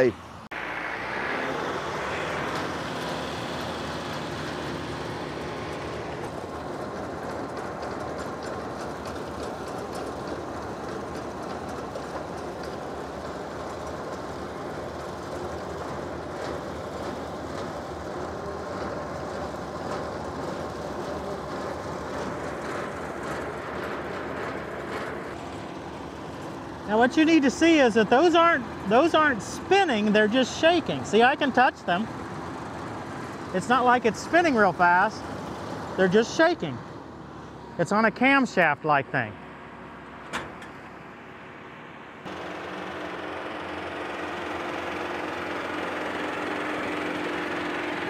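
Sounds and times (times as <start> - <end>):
tractor running: 0.0 - 48.0.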